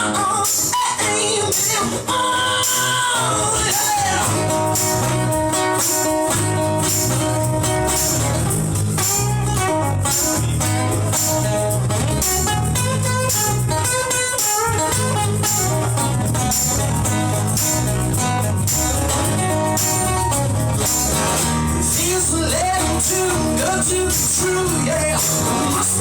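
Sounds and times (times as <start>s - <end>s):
bass guitar: 0.0s - 26.0s
electric guitar notes: 0.0s - 26.0s
drums with steady beat: 0.3s - 26.0s.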